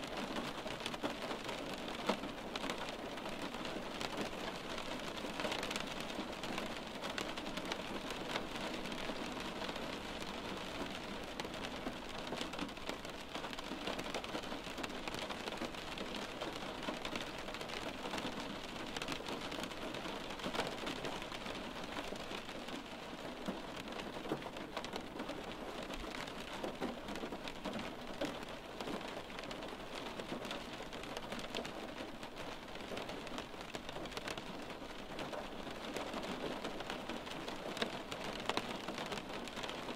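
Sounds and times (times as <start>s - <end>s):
rain tapping on window: 0.0s - 39.9s.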